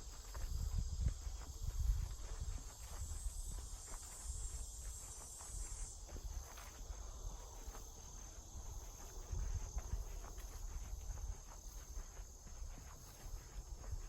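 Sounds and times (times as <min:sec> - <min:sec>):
footsteps crunching on forest floor: 0:00.0 - 0:14.0
insects buzzing: 0:00.0 - 0:14.0.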